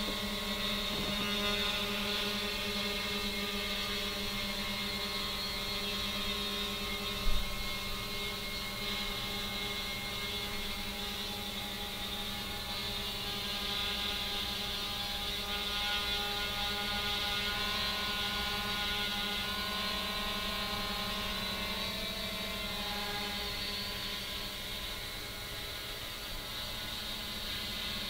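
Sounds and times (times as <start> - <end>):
drone motors humming: 0.0 - 28.0.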